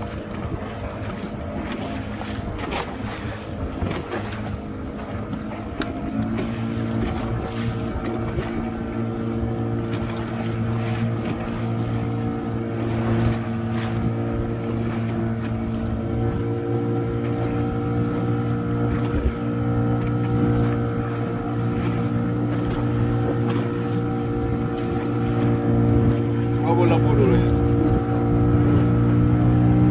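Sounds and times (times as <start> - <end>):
boat motor droning: 0.0 - 29.9
wind and water rushing: 0.0 - 29.9.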